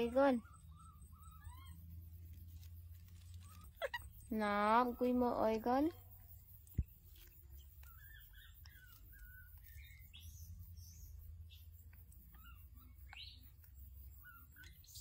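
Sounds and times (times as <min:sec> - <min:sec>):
bird chirps and tweets: 0:00.0 - 0:15.0.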